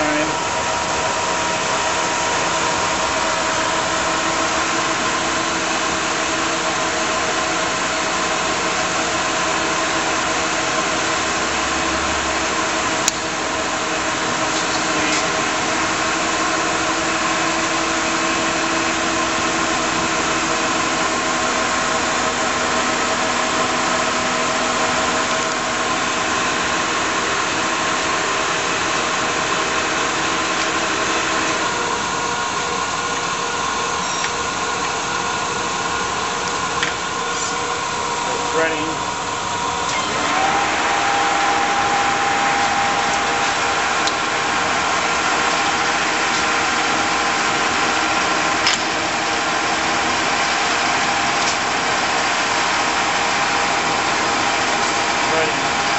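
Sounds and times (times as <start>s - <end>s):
lathe motor hum and whine: 0.0s - 55.9s.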